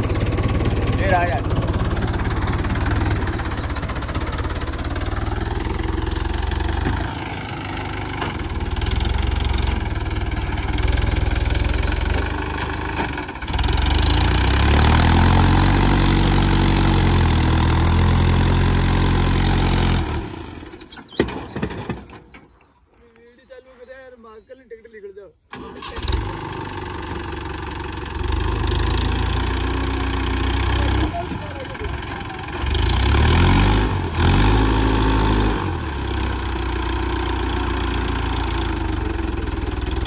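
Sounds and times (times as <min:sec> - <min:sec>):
tractor diesel engine straining: 0:00.0 - 0:22.6, 0:25.5 - 0:40.0.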